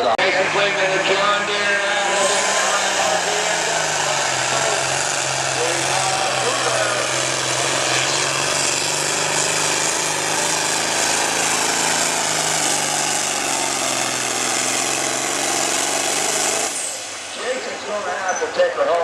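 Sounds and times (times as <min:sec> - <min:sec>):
tractor diesel engine at full throttle: 0:00.0 - 0:19.0.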